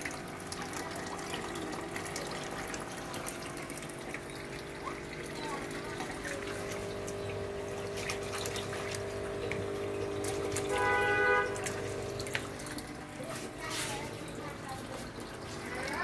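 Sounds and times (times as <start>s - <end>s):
steady low hum: 0.0s - 15.8s
water splashing and dripping: 0.0s - 16.0s.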